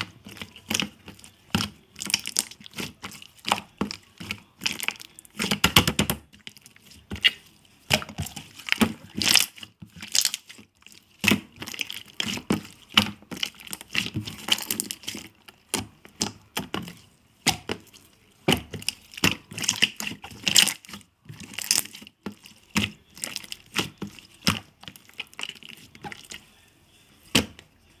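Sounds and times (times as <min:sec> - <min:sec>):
slime crackling and popping: 0:00.0 - 0:26.4.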